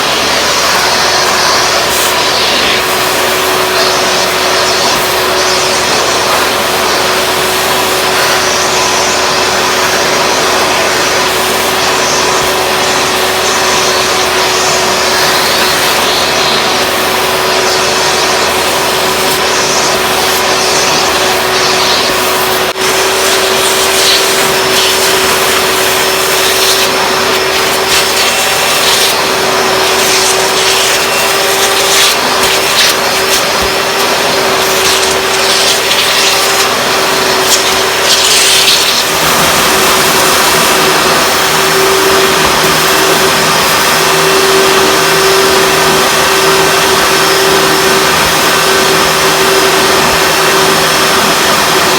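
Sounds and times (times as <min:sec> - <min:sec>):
upright vacuum motor whining: 0:00.0 - 0:51.9.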